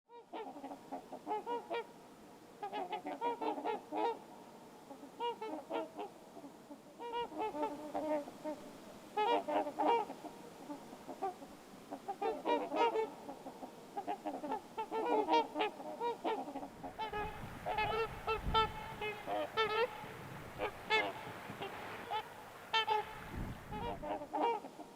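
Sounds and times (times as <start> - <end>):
swans honking: 0.2 - 24.9.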